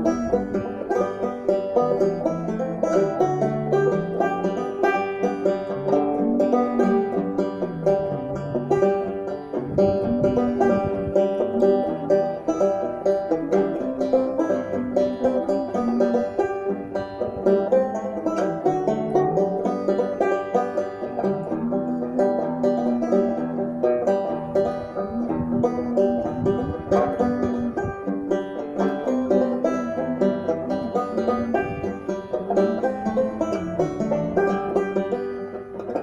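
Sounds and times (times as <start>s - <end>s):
banjo played solo: 0.0s - 36.0s.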